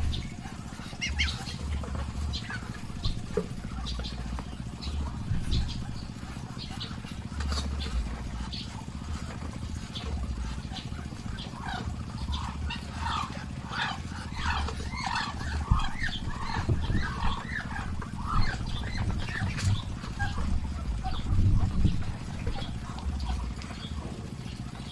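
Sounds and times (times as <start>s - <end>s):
low rumble: 0.0s - 13.4s, 14.0s - 24.9s
ducks chirping calls: 0.0s - 24.9s.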